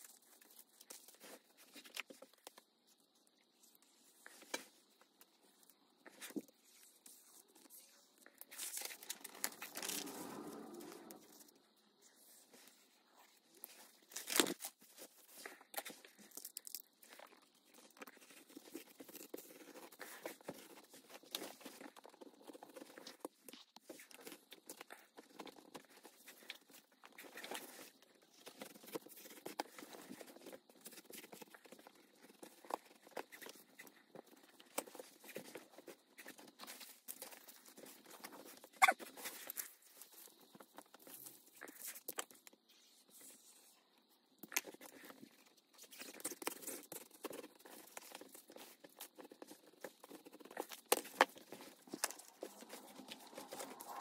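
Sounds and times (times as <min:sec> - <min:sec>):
rustling and crinkling materials: 0:00.0 - 0:54.0.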